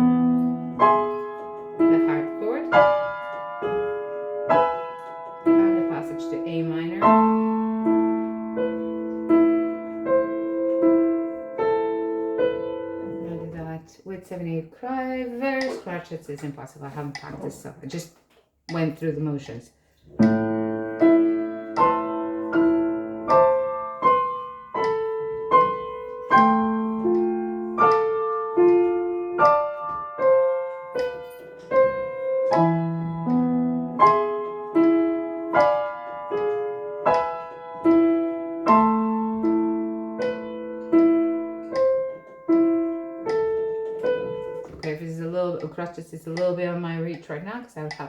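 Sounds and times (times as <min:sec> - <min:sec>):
slow piano playing: 0:00.0 - 0:13.6, 0:20.0 - 0:47.2.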